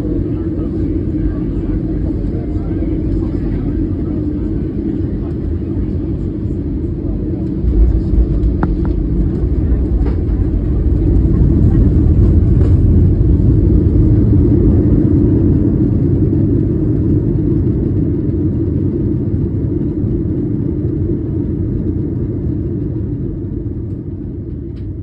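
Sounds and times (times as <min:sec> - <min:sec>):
aircraft engines and wheels rumbling: 0:00.0 - 0:25.0.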